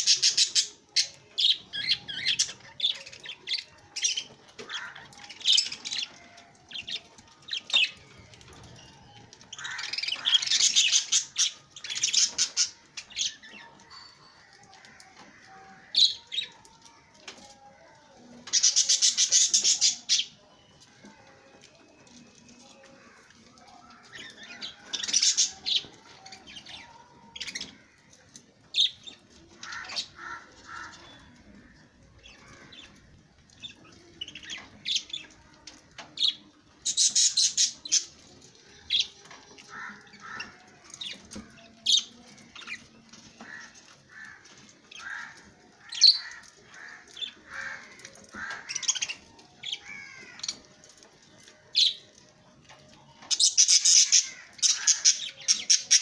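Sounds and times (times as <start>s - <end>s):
parrots chirping and squawking: 0.0s - 17.5s, 18.4s - 56.0s.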